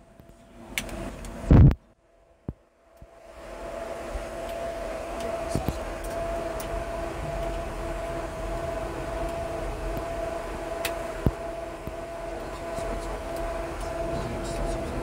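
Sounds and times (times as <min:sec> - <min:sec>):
air conditioning and fans humming: 0:00.0 - 0:15.0
constant whine tone: 0:00.0 - 0:15.0.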